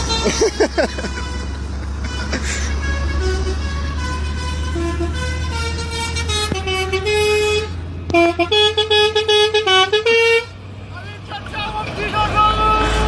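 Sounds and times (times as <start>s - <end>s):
car horns: 0.0s - 10.6s
engine and road noise: 0.0s - 13.0s.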